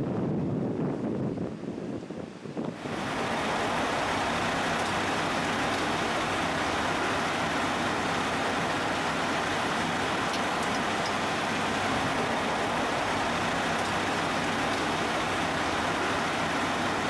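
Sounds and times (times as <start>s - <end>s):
diesel engine running: 2.8s - 17.0s.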